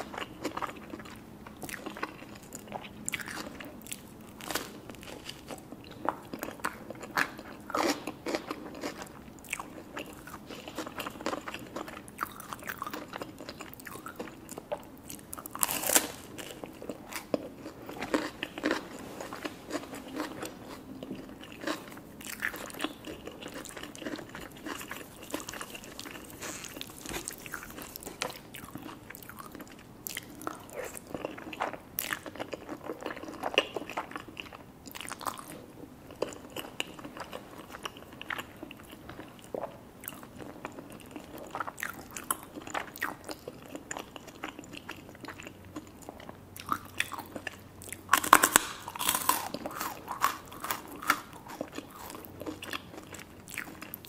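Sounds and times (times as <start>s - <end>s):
crunching toasted bread: 3.1s - 39.3s, 46.6s - 54.0s.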